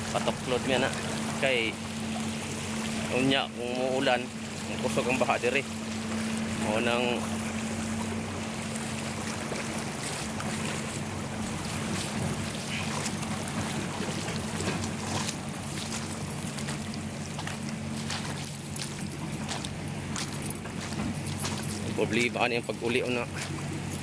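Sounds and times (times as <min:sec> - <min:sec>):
steady low hum: 0:00.0 - 0:24.0
water rushing over rocks: 0:00.0 - 0:24.0.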